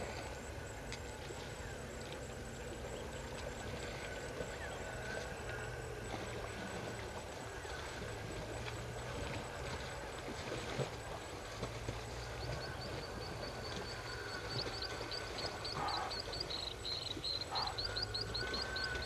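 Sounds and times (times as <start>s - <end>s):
elephants splashing in mud: 0.0s - 19.0s.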